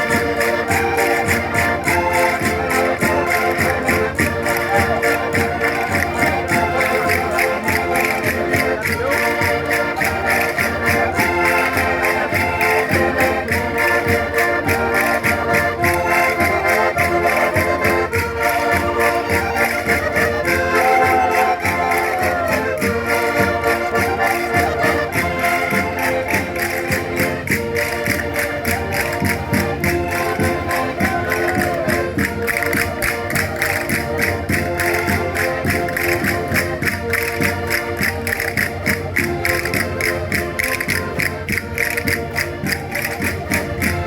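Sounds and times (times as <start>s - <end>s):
concertinas playing folk dance tune: 0.0s - 44.0s.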